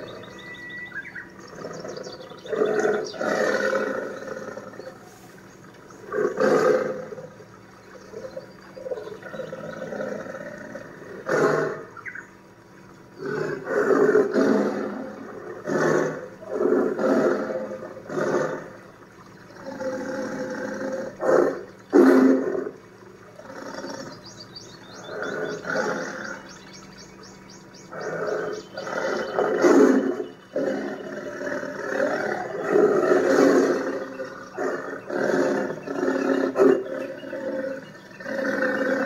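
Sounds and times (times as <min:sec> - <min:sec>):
tigers growling: 0:01.4 - 0:07.4, 0:08.1 - 0:11.9, 0:13.2 - 0:26.6, 0:27.8 - 0:39.0
tigers roaring: 0:01.4 - 0:07.4, 0:08.1 - 0:11.9, 0:13.1 - 0:24.3, 0:24.9 - 0:26.6, 0:27.9 - 0:39.0.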